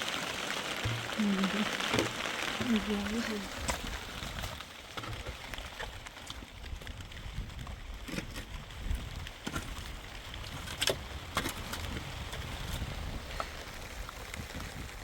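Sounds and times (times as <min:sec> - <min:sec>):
water dripping and splashing: 0:00.0 - 0:15.0.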